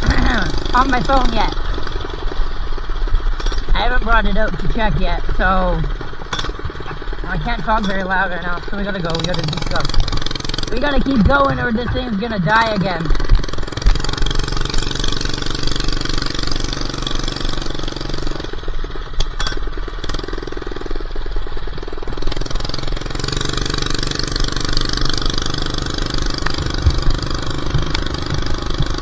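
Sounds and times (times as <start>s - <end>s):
minibike engine running: 0.0s - 20.0s, 20.6s - 29.0s.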